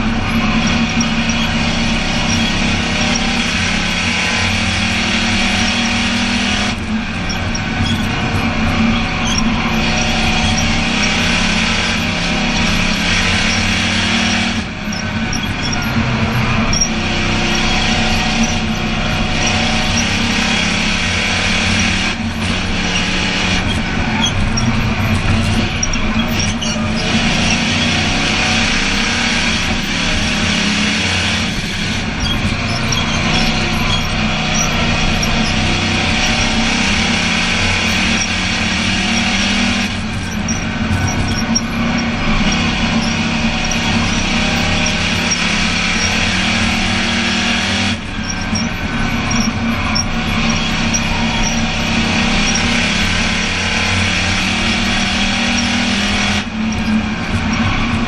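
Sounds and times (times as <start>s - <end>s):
race car engine running hard: 0.0s - 58.0s
wind and road noise: 0.0s - 58.0s.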